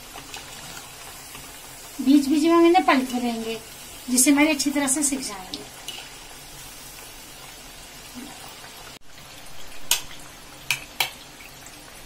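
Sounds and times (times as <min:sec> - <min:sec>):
deep-frying sizzle and bubbling: 0:00.0 - 0:12.0.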